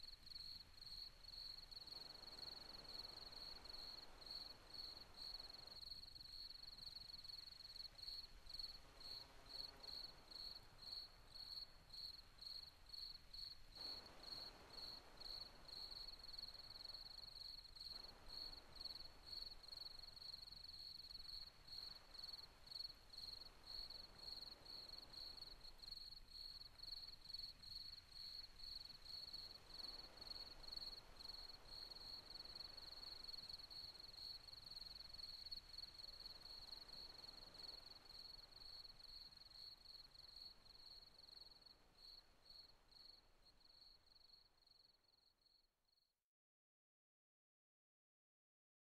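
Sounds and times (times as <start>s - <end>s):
low hiss: 0.0s - 45.8s
faint cricket chirping: 0.0s - 46.2s.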